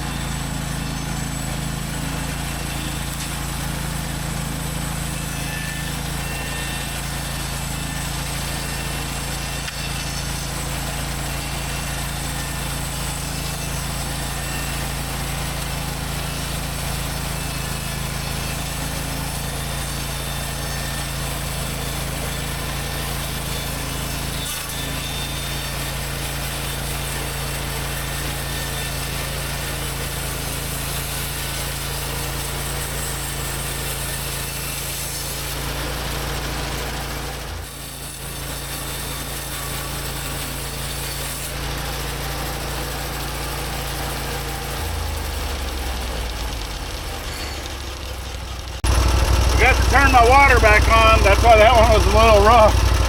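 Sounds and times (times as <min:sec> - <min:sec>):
bandsaw mill sawing log: 0:00.0 - 0:53.0.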